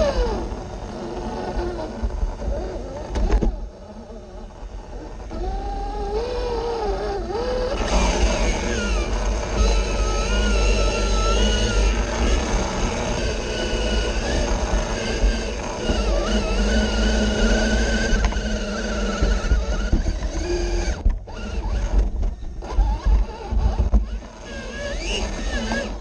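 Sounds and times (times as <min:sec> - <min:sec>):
rc car electric motor whining: 0:00.0 - 0:26.0.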